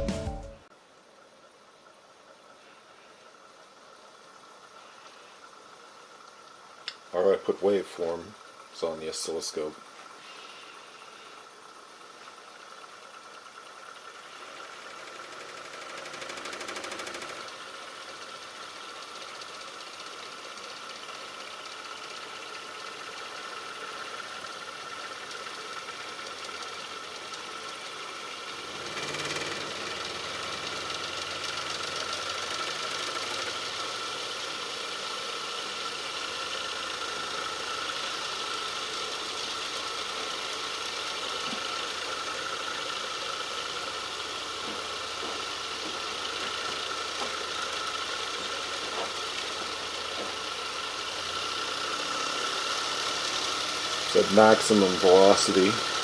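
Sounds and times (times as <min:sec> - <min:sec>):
electric motor spinning: 0:08.4 - 0:56.0.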